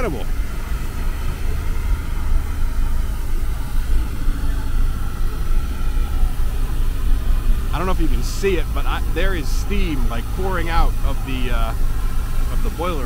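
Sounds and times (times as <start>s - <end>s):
faint steam hiss: 0.0s - 13.0s
steam locomotive low rumble: 0.0s - 13.0s.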